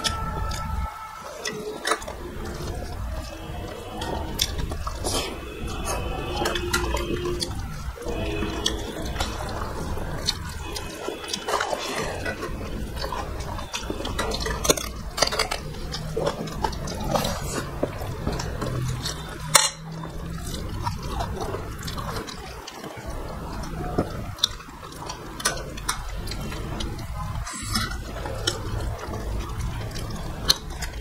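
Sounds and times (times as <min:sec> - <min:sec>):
fingers mixing rice on plates: 0:00.0 - 0:31.0
wet chewing and smacking: 0:00.0 - 0:31.0.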